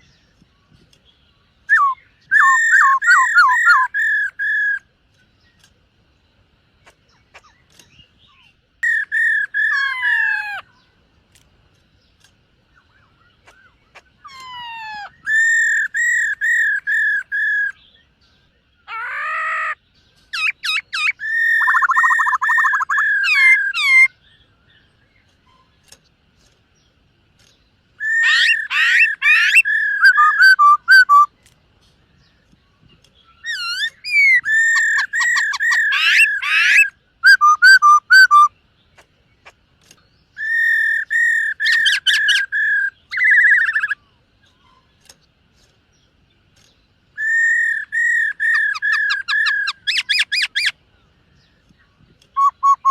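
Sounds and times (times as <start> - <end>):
bird singing whistled song: 0.0 - 5.7, 7.1 - 10.9, 12.0 - 26.0, 27.4 - 31.4, 32.2 - 38.6, 40.0 - 44.9, 46.6 - 52.9.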